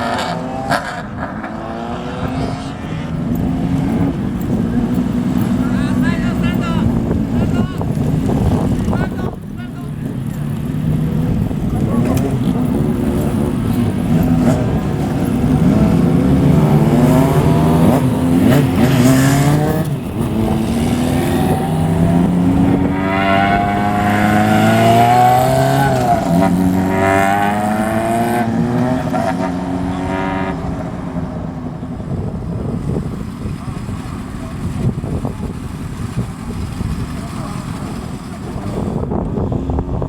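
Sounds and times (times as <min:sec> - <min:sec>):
motorcycles revving and accelerating: 0:00.0 - 0:40.0.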